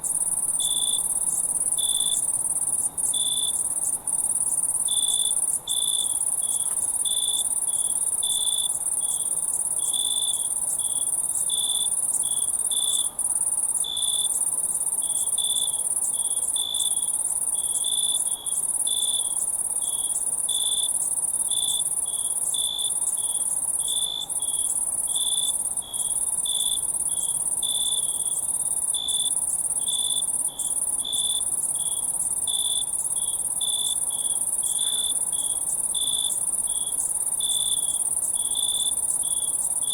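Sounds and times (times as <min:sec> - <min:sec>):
high insect trill: 0:00.0 - 0:39.9
lower cricket chirps: 0:00.0 - 0:39.9.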